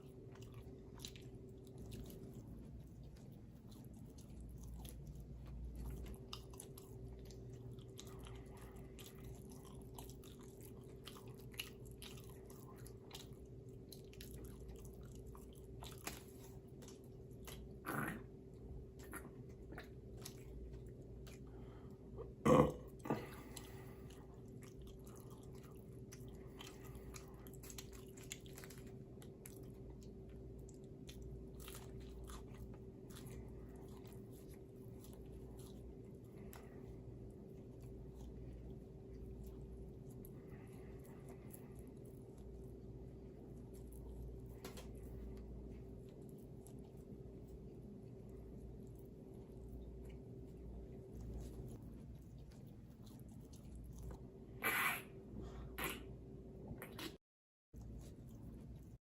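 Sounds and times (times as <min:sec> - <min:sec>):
person chewing crunchy food: 0:00.0 - 0:54.6
faint steady hum: 0:00.0 - 0:57.2, 0:57.8 - 0:59.0.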